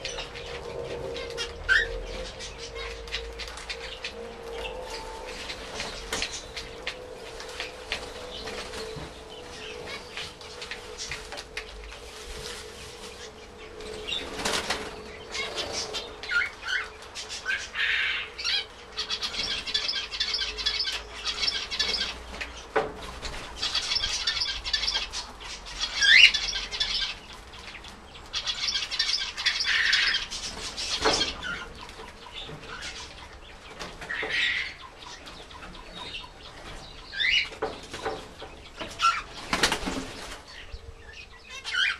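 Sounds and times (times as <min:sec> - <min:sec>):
finches calling and singing: 0:00.0 - 0:12.0, 0:13.2 - 0:22.6, 0:23.6 - 0:39.7.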